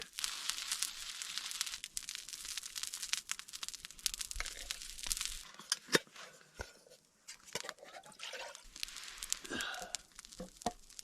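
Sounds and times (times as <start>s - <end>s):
food sizzling over campfire: 0.0s - 11.0s.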